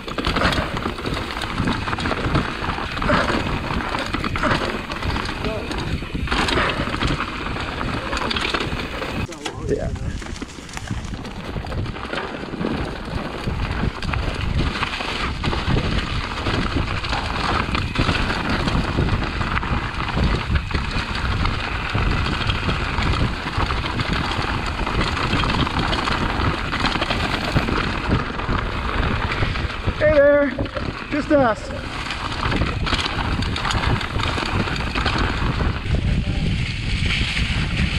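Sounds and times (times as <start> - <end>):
bike frame rattling: 0.0 - 37.9
tyres rumbling over rocks: 0.0 - 37.9
wind on microphone: 0.0 - 37.9.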